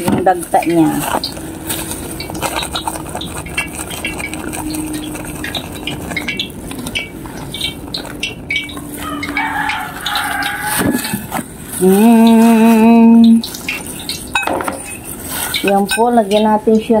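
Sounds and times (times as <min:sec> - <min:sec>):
plastic sack crinkling: 0:00.0 - 0:17.0.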